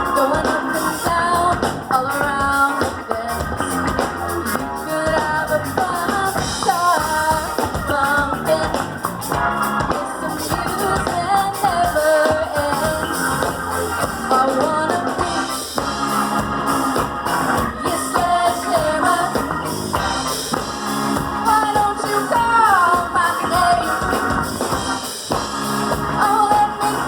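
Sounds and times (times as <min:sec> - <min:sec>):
person singing: 0:00.0 - 0:15.8, 0:17.6 - 0:20.5, 0:21.4 - 0:24.7, 0:25.9 - 0:27.0
drum kit: 0:00.0 - 0:27.0
electric guitar: 0:00.0 - 0:27.0.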